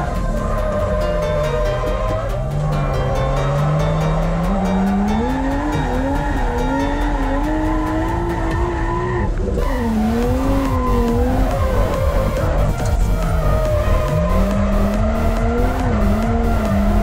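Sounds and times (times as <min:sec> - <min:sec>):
car engine revving hard: 0:00.0 - 0:17.0
tyres squealing: 0:00.0 - 0:17.0.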